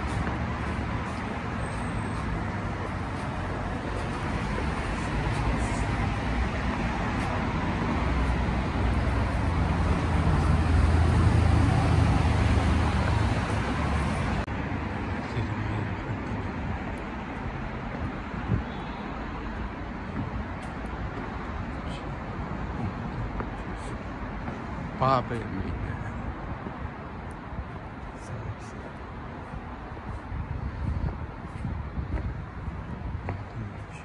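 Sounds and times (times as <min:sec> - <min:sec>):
street traffic noise: 0:00.0 - 0:34.0.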